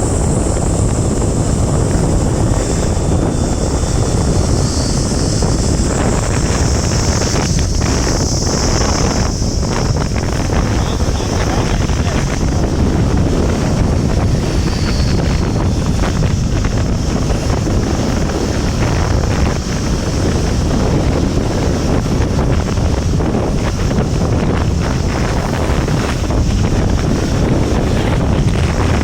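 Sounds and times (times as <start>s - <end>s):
high hiss: 0.0s - 28.3s
wind buffeting microphone: 0.0s - 29.0s.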